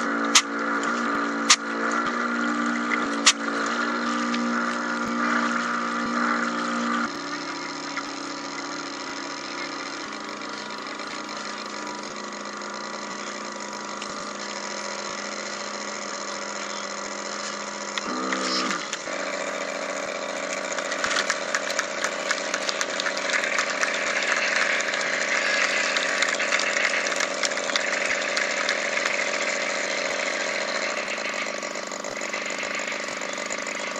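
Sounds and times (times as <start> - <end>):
buzzing motor with rattling clicks: 0.0 - 33.9
drive motor whining: 0.0 - 33.9.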